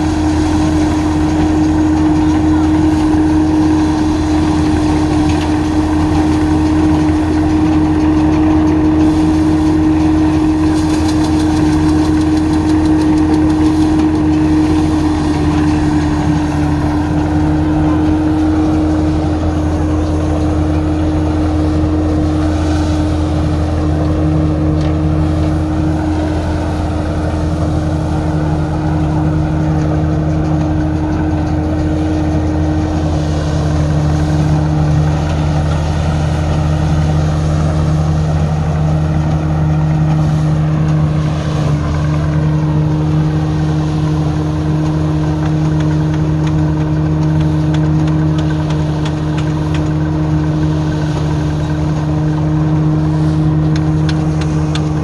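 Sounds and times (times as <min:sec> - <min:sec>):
threshing machine humming: 0:00.0 - 0:55.0
tractor engine running: 0:00.0 - 0:55.0.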